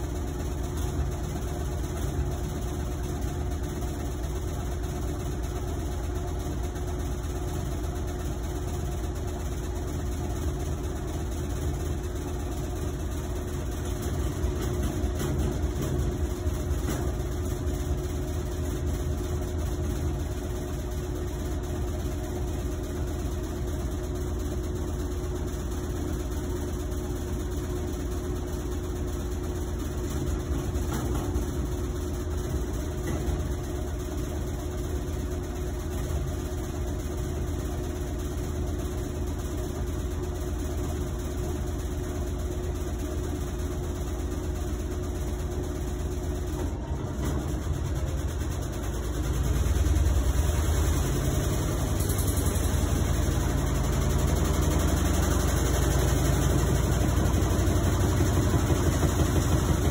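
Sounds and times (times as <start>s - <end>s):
washing machine rumbling: 0.0s - 59.9s.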